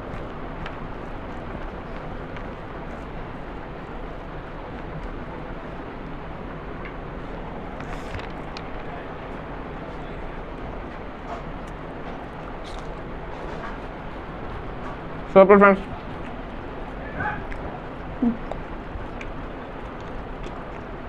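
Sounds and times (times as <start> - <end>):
faint eating clicks: 0.0 - 21.0.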